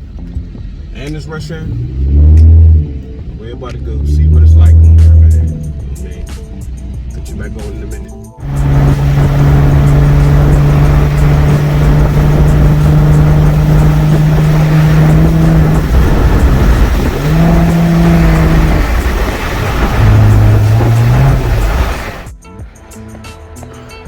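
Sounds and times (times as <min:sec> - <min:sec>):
car engine and exhaust droning: 0:00.0 - 0:22.3.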